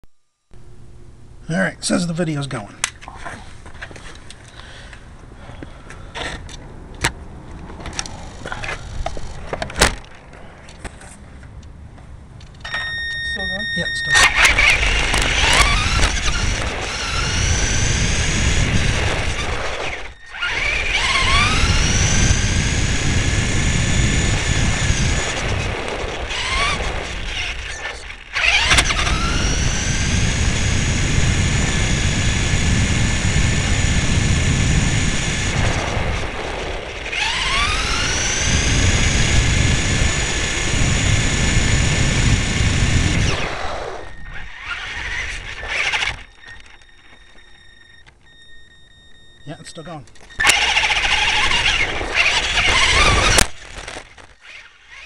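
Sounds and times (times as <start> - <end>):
rc car motor whine: 7.9 - 10.2, 12.6 - 55.0.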